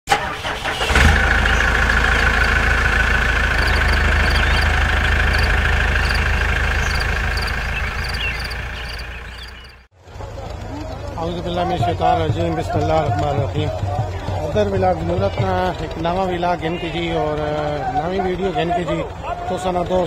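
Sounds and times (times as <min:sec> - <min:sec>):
engine running: 0:00.1 - 0:20.0.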